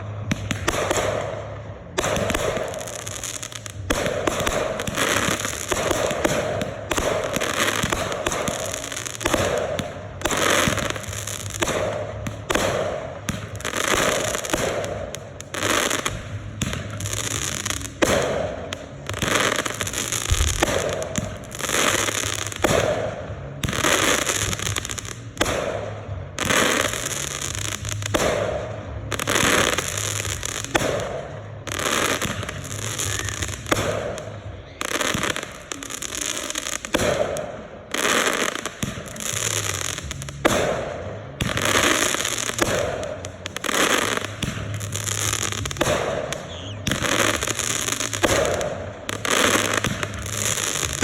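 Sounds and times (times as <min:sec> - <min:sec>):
firework bangs: 0:00.0 - 0:51.0
fireworks fizzing crackle: 0:00.0 - 0:51.0.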